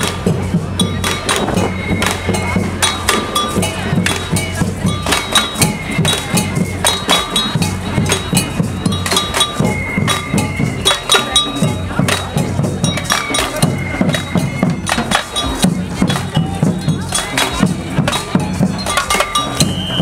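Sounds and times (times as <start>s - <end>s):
drum band playing fast rhythm: 0.0s - 20.0s.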